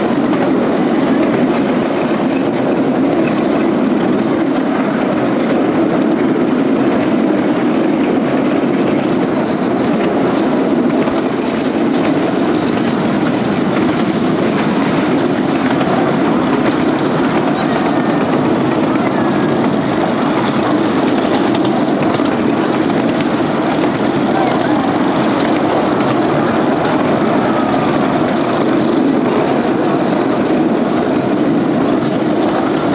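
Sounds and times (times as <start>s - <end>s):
small train wheels rumbling on rails: 0.0s - 32.9s.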